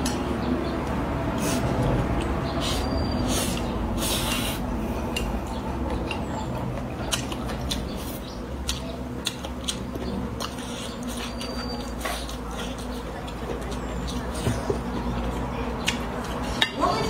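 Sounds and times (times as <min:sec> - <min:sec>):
low background hum: 0:00.0 - 0:17.0
person chewing food: 0:00.9 - 0:16.6.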